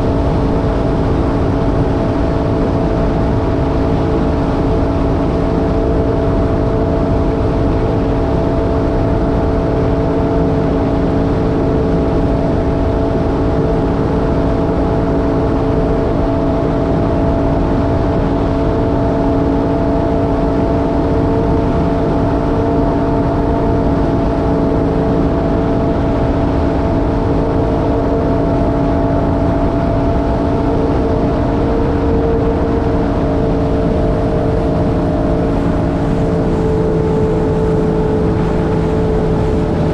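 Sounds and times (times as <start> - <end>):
jet ski engine whine: 0.0 - 39.9.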